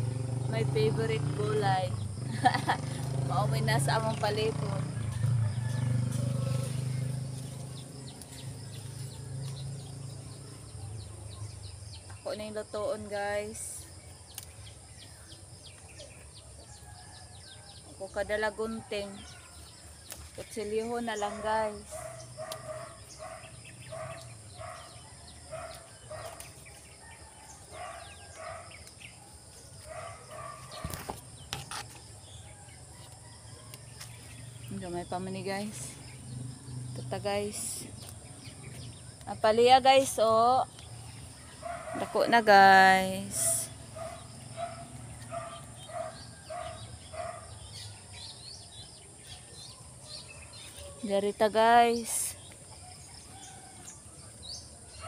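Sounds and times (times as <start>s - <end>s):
birds calling: 0.0s - 55.0s.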